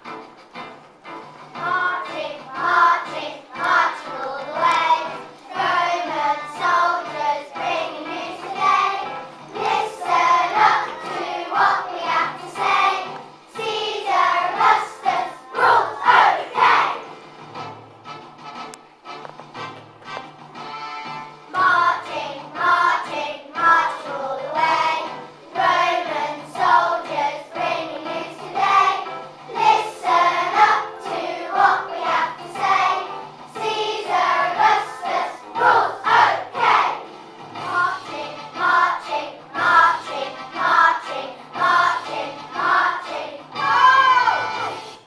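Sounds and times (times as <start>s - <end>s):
musical accompaniment: 0.0s - 45.0s
children's choir singing: 1.5s - 17.3s, 21.5s - 45.0s.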